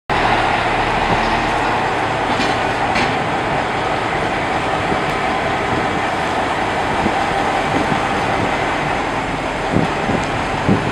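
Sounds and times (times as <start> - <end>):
diesel truck engine running: 0.1 - 10.9.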